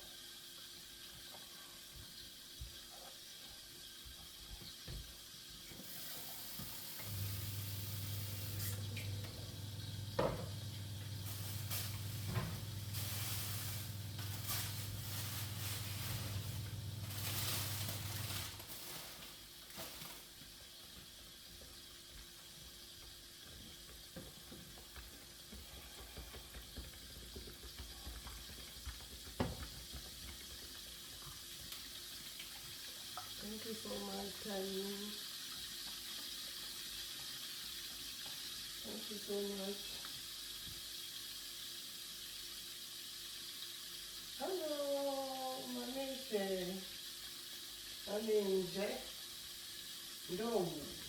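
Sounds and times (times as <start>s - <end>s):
food sizzling in a pot: 0.0s - 51.0s.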